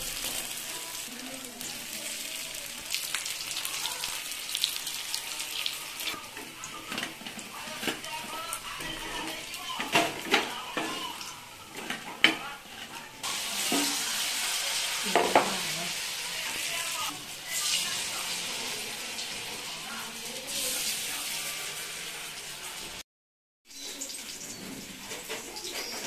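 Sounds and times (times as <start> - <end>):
hot oil sizzling: 0.0 - 23.0, 23.7 - 26.0.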